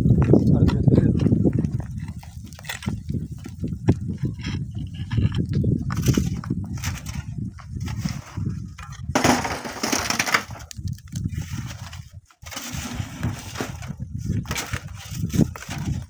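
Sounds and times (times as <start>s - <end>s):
loud crunching crumbling noise: 0.0s - 16.0s
wind buffeting microphone: 0.0s - 16.0s.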